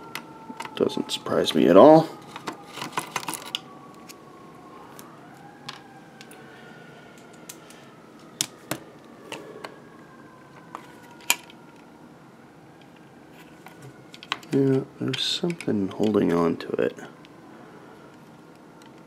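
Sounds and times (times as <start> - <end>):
distant emergency siren: 0.0 - 19.0.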